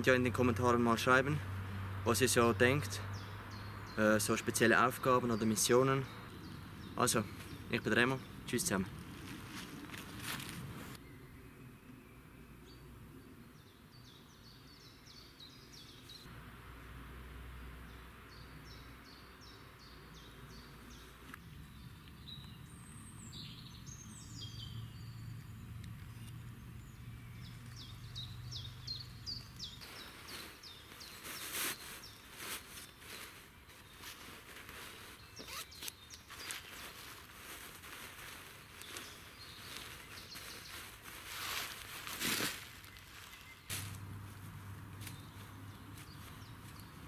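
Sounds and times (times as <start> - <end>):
quiet outdoor background noise: 0.0 - 47.0
songbirds chirping: 0.0 - 47.0.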